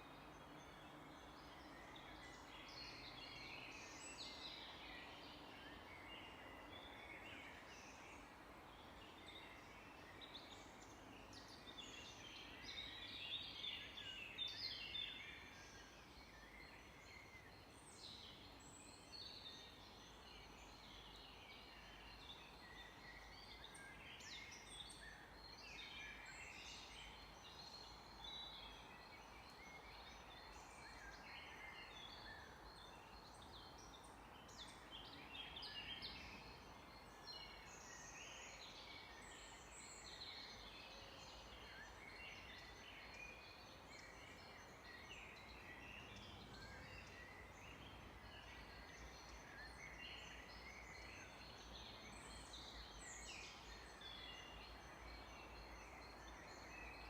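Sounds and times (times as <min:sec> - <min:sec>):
faint steady background hiss: 0:00.0 - 0:57.0
songbirds chirping and trilling: 0:00.0 - 0:57.0.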